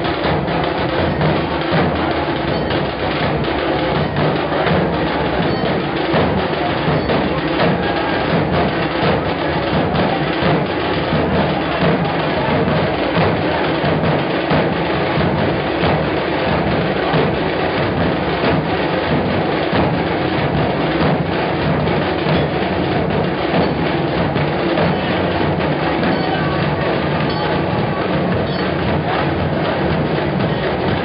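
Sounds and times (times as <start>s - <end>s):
loud continuous drumming: 0.0s - 31.0s.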